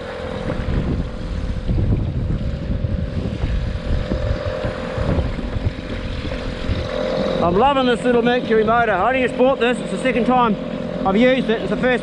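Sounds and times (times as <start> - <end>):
outboard motor running: 0.0 - 12.0
water splashing along hull: 0.0 - 12.0
wind buffeting microphone: 0.0 - 12.0.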